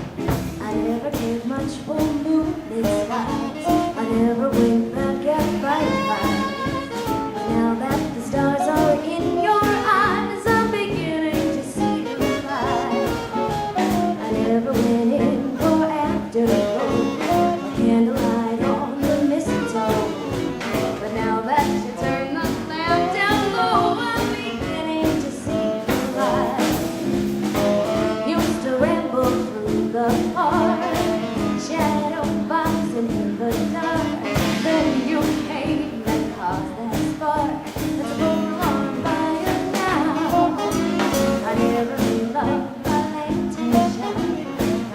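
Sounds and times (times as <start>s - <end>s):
steady drum beat: 0.0s - 44.9s
swing band playing: 0.0s - 44.9s
horns playing melody: 2.8s - 32.3s, 33.7s - 36.1s, 37.7s - 44.9s.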